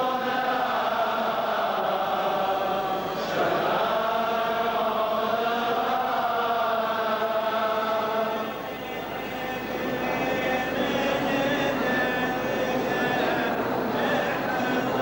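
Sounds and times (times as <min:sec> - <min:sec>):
group singing slow funeral chant: 0:00.0 - 0:15.0.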